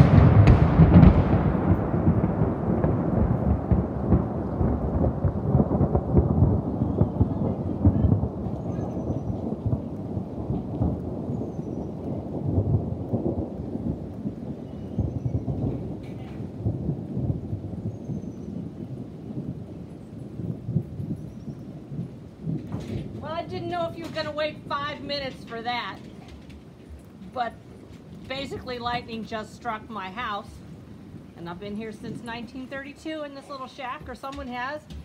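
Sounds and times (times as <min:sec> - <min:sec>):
thunder rumbling: 0:00.0 - 0:35.0.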